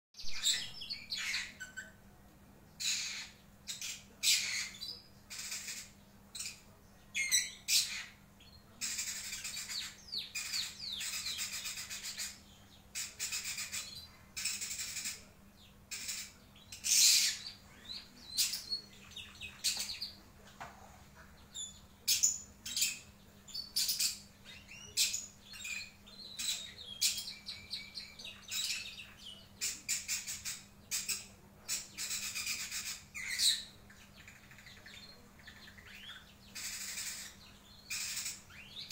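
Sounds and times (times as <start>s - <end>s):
lovebird chirping and twittering: 0.2s - 2.0s, 2.8s - 15.3s, 15.9s - 20.2s, 21.4s - 38.9s.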